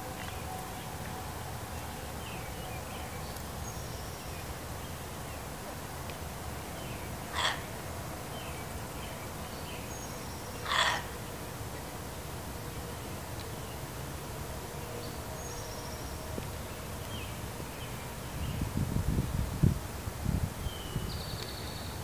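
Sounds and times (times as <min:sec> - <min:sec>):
faint background noise: 0:00.0 - 0:22.0.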